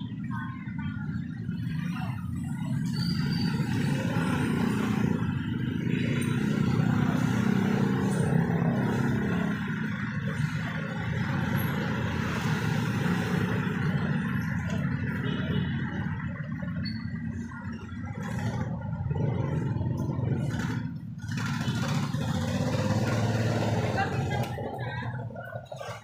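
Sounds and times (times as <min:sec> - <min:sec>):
motorbikes passing: 0:00.0 - 0:26.0.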